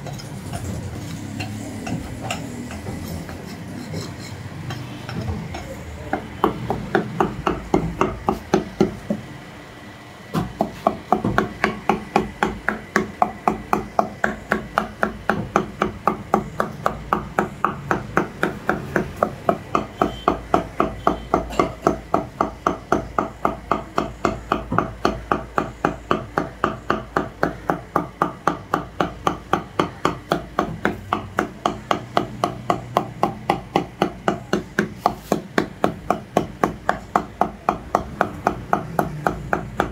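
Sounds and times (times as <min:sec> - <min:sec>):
cleaver chopping meat on wooden block: 0:05.1 - 0:09.2, 0:10.4 - 0:39.9.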